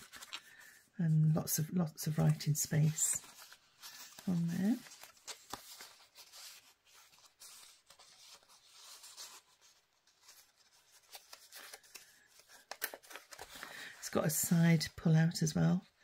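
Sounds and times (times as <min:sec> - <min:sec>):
paper rustling and soft clicks: 0:00.0 - 0:00.8, 0:02.0 - 0:15.6.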